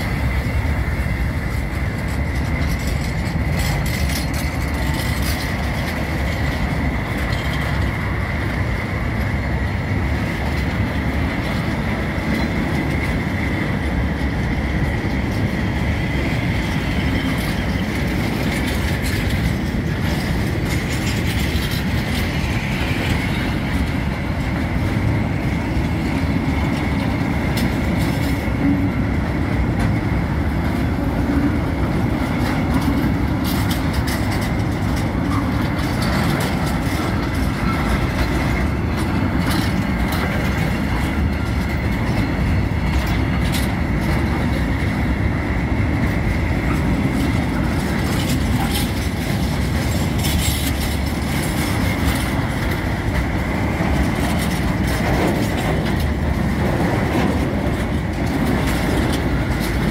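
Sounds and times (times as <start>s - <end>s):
freight train rolling past: 0.0s - 59.9s
wheels clicking over rail joints: 0.0s - 59.9s.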